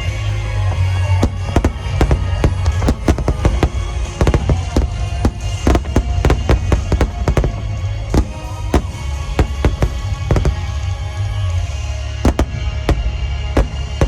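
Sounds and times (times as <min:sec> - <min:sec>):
low rumble: 0:00.0 - 0:14.0
music playing: 0:00.0 - 0:14.0
fireworks bursting: 0:00.6 - 0:14.0.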